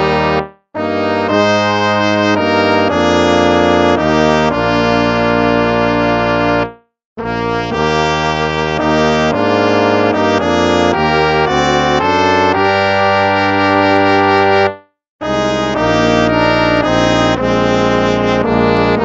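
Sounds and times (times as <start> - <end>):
instrumental music of held chords: 0.0 - 19.0.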